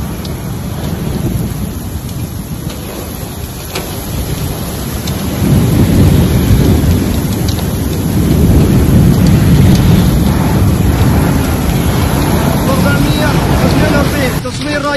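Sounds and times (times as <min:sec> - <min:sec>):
deep rumble: 0:00.0 - 0:14.9
heavy rain: 0:00.0 - 0:14.9
wind: 0:00.0 - 0:14.9.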